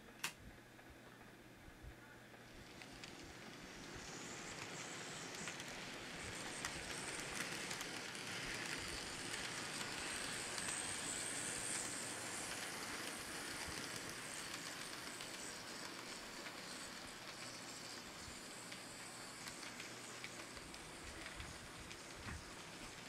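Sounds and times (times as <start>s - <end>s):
model train wheels rattling on rail: 2.5s - 23.0s.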